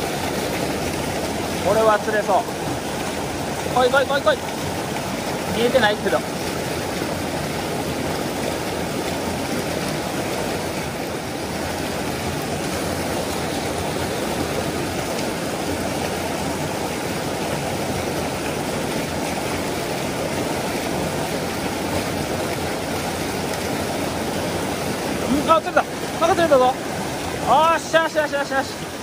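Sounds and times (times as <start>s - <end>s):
stream rushing over boulders: 0.0s - 29.0s.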